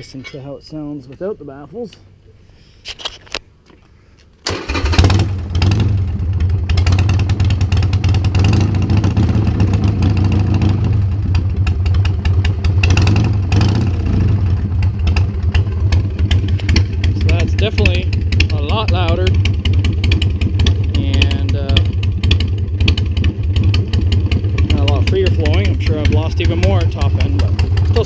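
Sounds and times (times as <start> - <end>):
motorcycle engine idling loudly: 4.8 - 28.0.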